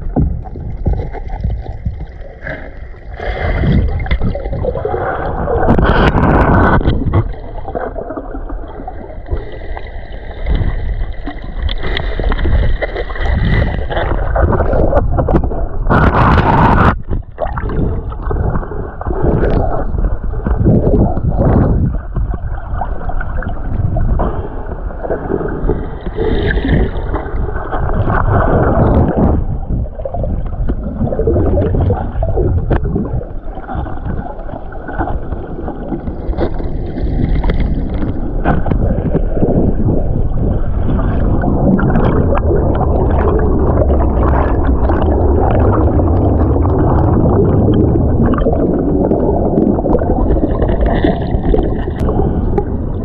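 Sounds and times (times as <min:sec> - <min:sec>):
muffled waterfall churning underwater: 0:00.0 - 0:53.0.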